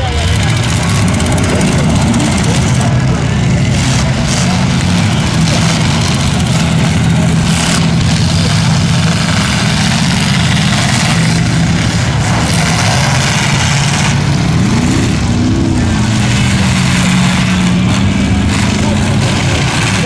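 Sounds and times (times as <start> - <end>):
engine revving: 0.0 - 20.0
truck engines running loudly: 0.0 - 20.0.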